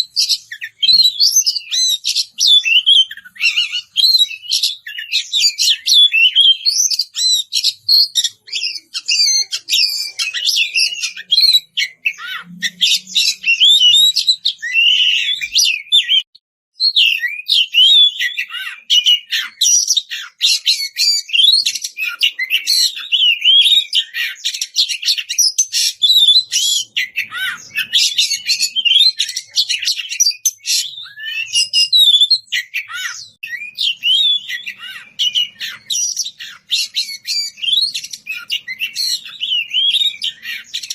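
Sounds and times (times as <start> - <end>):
songbird singing whistles and chirps: 0.0 - 40.9.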